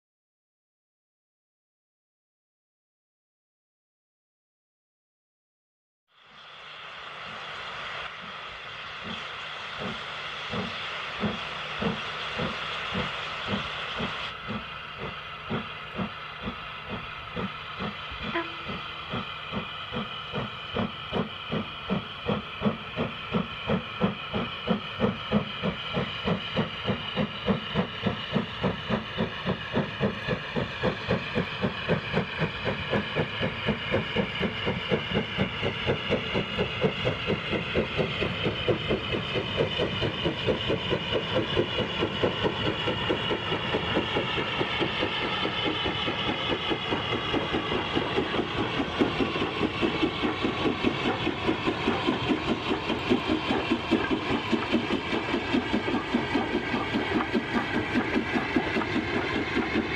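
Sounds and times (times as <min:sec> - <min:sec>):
steam locomotive exhaust beats: 0:06.2 - 0:59.9.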